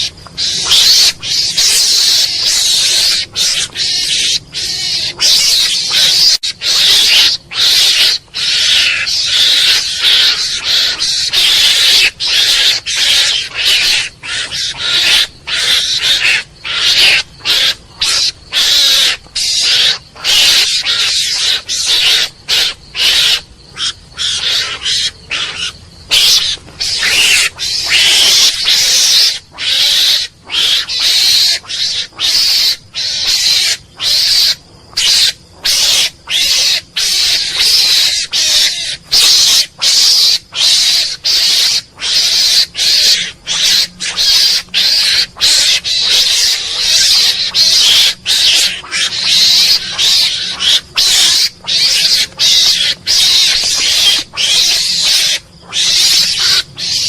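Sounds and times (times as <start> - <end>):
mongoose calling: 0.0 - 57.0.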